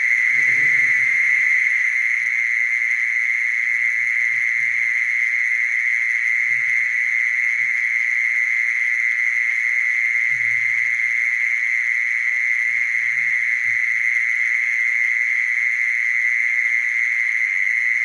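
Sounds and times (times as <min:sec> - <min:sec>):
mole cricket trilling: 0:00.0 - 0:18.0.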